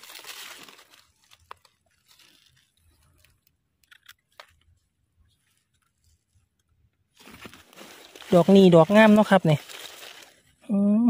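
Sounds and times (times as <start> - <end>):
soil and dry leaves crackling: 0.0 - 10.8.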